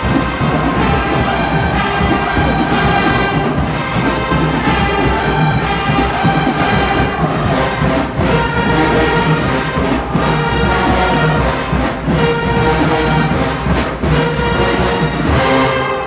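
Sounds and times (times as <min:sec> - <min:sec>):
brass section playing chords: 0:00.0 - 0:16.0
drum line: 0:00.0 - 0:16.0.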